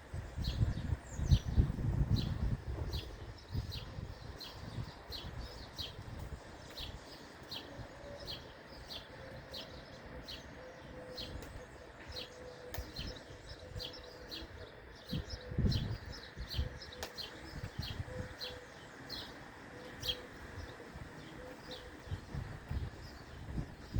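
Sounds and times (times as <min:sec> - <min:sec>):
small birds chirping: 0:00.2 - 0:23.9.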